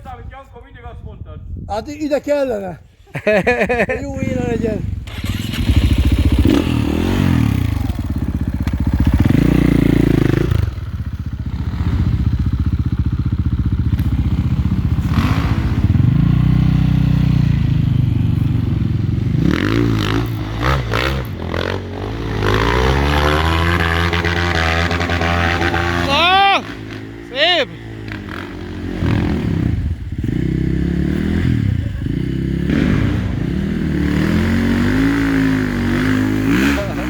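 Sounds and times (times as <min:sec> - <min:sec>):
dirt bike engine revving: 0:04.2 - 0:37.0.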